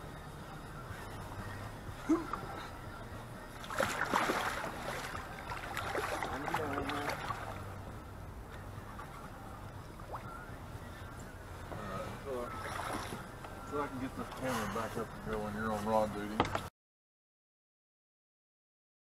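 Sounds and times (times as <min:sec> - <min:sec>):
water splashing against boat: 0:00.5 - 0:16.7.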